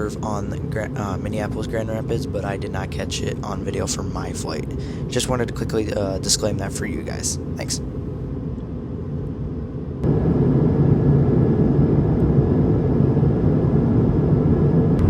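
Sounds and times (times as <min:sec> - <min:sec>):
jet cabin engine and airflow rumble: 0:00.0 - 0:15.0.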